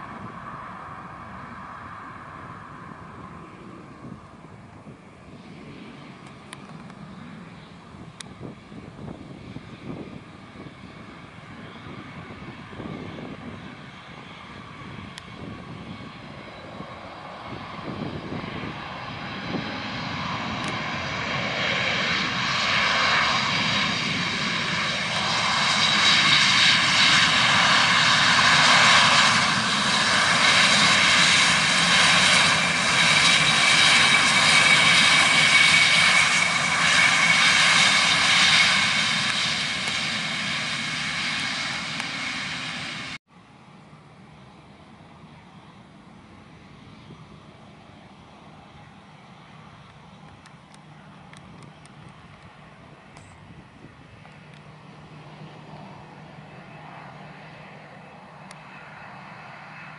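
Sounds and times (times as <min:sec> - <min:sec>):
high engine whine: 0:00.0 - 0:59.9
jet engine roar: 0:00.0 - 0:59.9.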